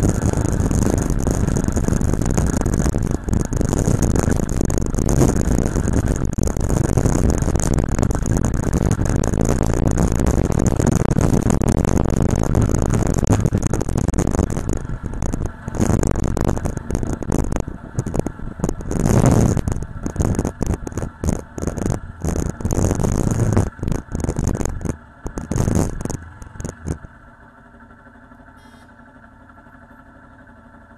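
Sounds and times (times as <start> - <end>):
wind on microphone: 0.0 - 27.2
motorcycle engine: 0.0 - 30.9.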